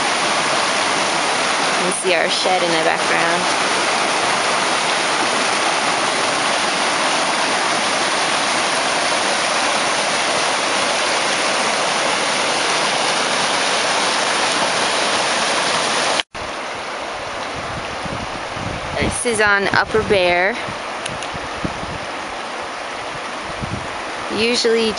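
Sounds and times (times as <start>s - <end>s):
flooded stream rushing: 0.0s - 24.9s.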